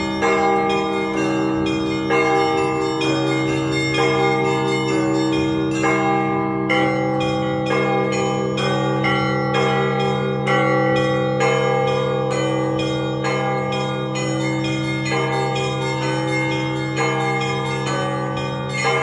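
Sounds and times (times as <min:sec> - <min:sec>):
hum of big bells: 0:00.0 - 0:19.0
smaller church bells struck: 0:00.0 - 0:19.0.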